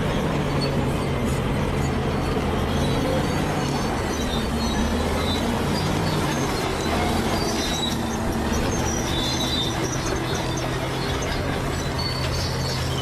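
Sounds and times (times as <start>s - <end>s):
bulldozer diesel engine running: 0.0s - 13.0s
crawler tracks clanking and squealing: 0.0s - 13.0s.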